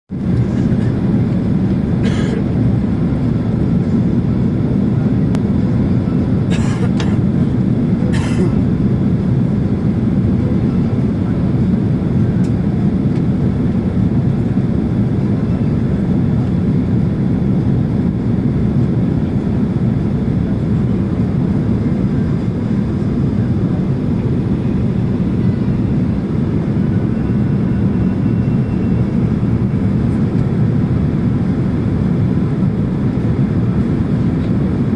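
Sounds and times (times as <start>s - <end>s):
airplane cabin roar: 0.1s - 34.9s.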